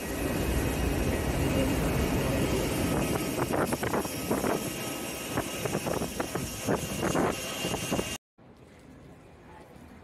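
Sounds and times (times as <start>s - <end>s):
jet engines rushing with whine: 0.0s - 8.2s.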